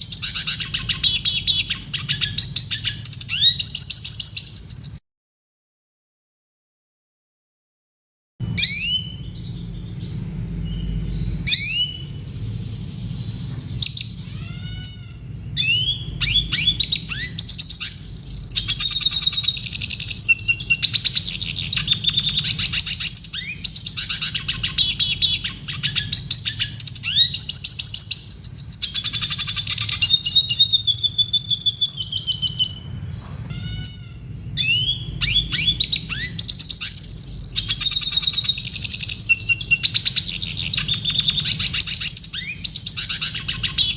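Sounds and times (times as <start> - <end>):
bird twittering trills: 0.0 - 5.0, 8.4 - 43.9
steady low hum: 8.4 - 43.9.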